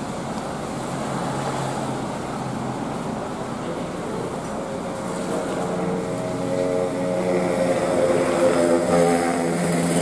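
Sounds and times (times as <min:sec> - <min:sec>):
bus diesel engine drone: 0:00.0 - 0:10.0.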